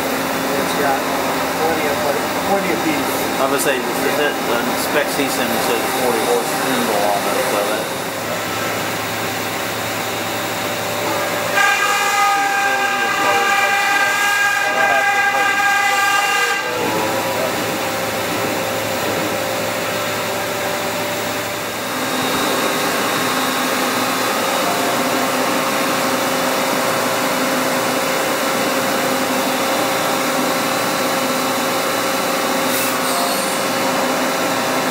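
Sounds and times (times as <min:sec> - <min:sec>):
faint machine whines: 0:00.0 - 0:34.9.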